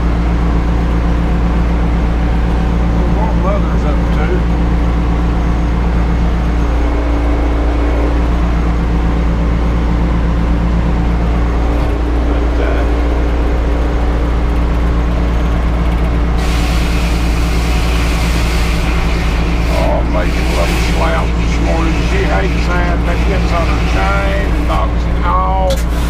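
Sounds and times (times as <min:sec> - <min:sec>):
sawmill machinery drone: 0:00.0 - 0:26.0.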